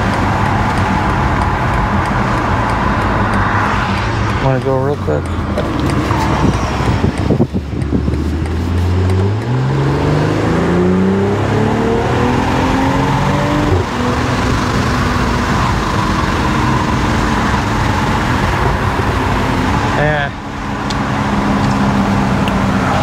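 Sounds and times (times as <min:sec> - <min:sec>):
car engine accelerating: 0:00.0 - 0:23.0
wind and road noise: 0:00.0 - 0:23.0.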